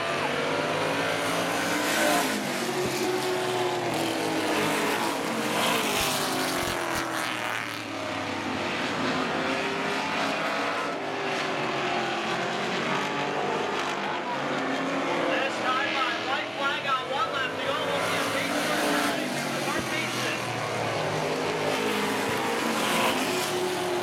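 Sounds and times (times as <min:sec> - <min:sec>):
race car engines: 0:00.0 - 0:24.0.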